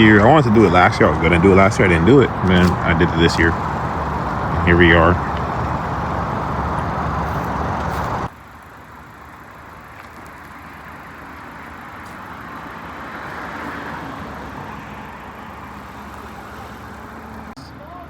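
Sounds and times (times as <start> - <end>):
car running loudly: 0.0 - 17.7
traffic hum: 0.0 - 18.0.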